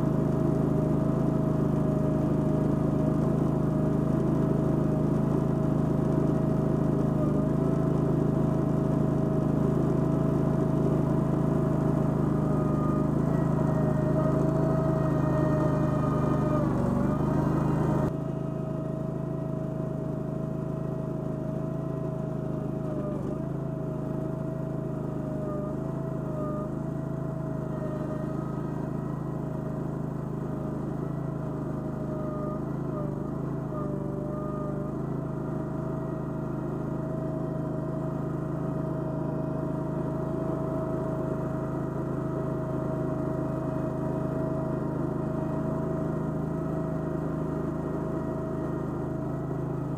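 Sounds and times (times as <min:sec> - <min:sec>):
mini skid steer running: 0:00.0 - 0:49.9.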